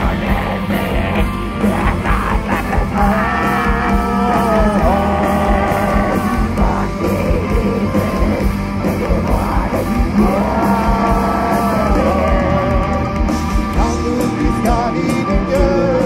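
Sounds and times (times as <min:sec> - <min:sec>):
distorted guitars: 0:00.0 - 0:16.0
drums: 0:00.0 - 0:16.0
folk metal band playing live: 0:00.0 - 0:16.0.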